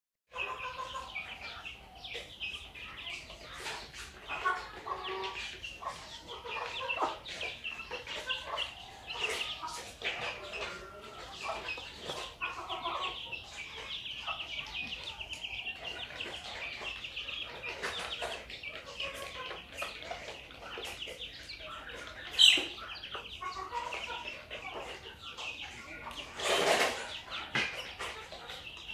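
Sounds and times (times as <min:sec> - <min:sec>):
chickens clucking and calling: 0:00.3 - 0:28.9.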